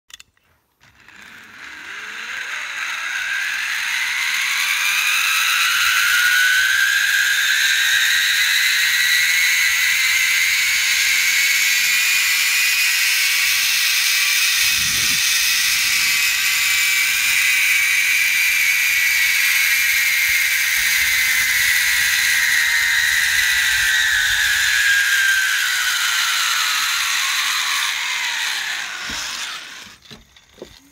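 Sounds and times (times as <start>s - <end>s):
zipline pulleys whirring on cable: 0.8s - 30.9s.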